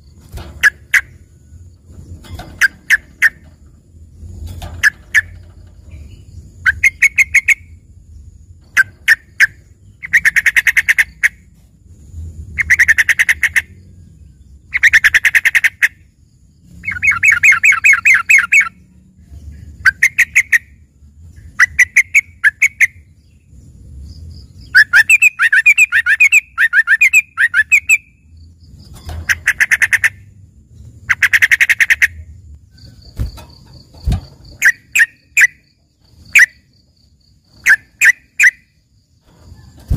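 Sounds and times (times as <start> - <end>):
bird singing rapid repeated notes: 0.0 - 39.9.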